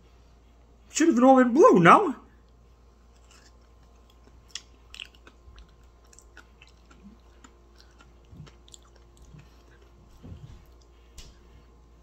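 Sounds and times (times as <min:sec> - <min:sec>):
person chewing a cookie: 0:02.4 - 0:12.0.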